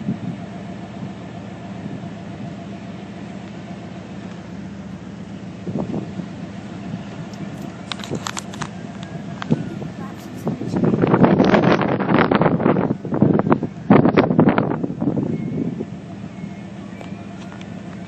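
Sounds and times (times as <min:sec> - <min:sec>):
engine idling hum: 0:00.0 - 0:18.0.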